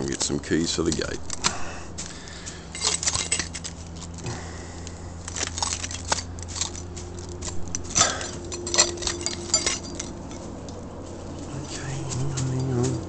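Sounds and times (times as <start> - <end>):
keys jingling: 0.8 - 11.4.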